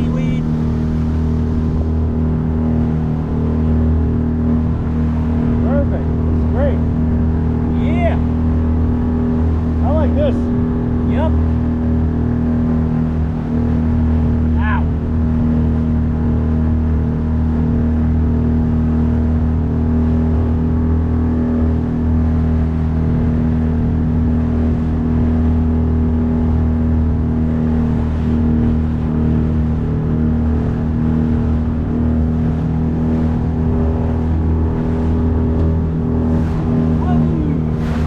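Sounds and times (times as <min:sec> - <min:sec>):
outboard motor running: 0:00.0 - 0:38.0.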